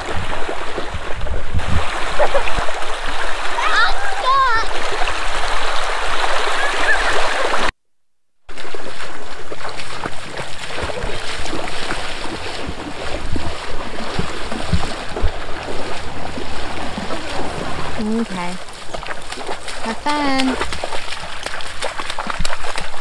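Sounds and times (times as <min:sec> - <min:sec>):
child splashing through water: 0:00.0 - 0:07.7, 0:08.5 - 0:23.0
creek water running over stones: 0:00.0 - 0:07.7, 0:08.5 - 0:23.0.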